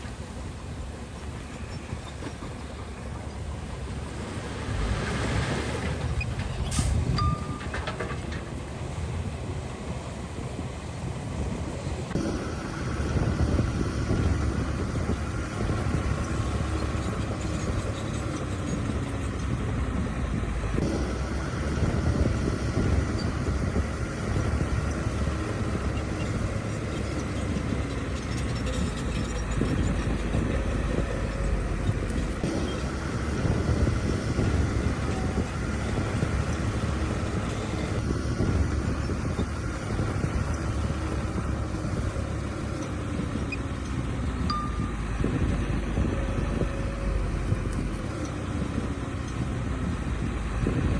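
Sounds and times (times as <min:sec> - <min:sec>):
bulldozer diesel engine rumbling: 0:00.0 - 0:50.9.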